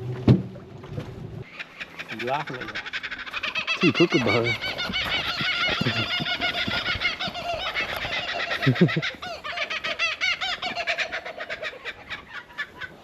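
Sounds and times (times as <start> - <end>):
kookaburras calling: 1.4 - 13.0.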